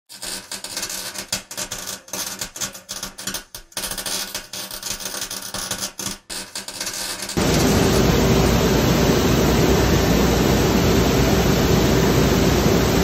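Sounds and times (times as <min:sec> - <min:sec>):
welding arc crackling: 0:00.1 - 0:13.0.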